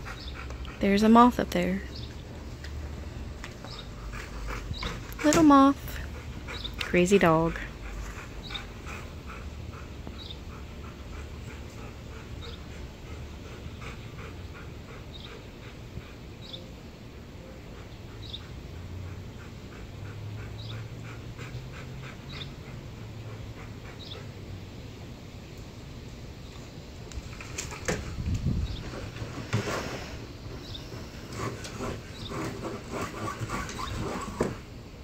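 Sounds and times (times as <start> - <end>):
dog panting rapidly: 0.0 - 1.3, 1.9 - 24.8, 27.4 - 34.6.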